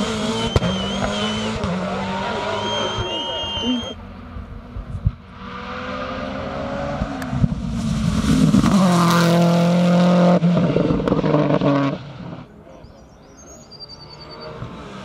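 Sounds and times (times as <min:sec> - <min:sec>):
race car engine passing by: 0:00.0 - 0:04.6, 0:05.2 - 0:12.5, 0:13.7 - 0:15.0.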